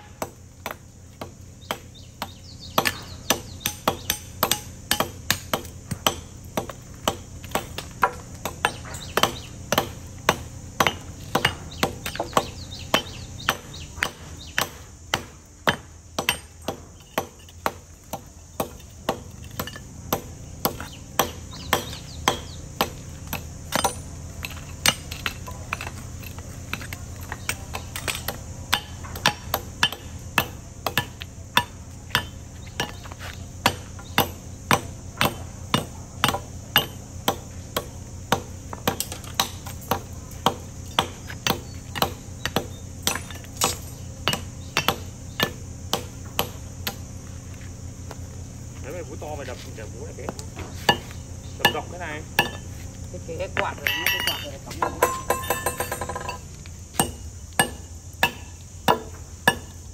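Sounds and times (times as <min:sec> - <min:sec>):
hammer striking concrete: 0:00.1 - 0:47.0, 0:50.3 - 0:52.7, 0:53.6 - 0:59.8.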